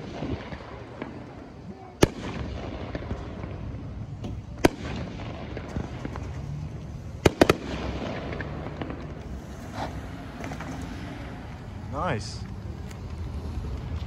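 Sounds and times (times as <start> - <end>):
fireworks bangs: 0.0 - 12.4
background rumble: 0.0 - 14.0.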